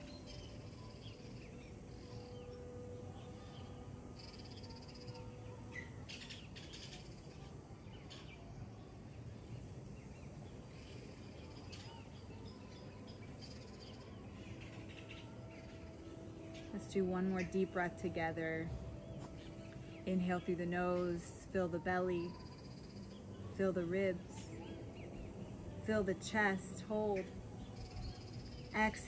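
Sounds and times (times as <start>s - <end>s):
birds chirping: 0.0s - 29.0s
low steady background hiss: 0.0s - 29.0s.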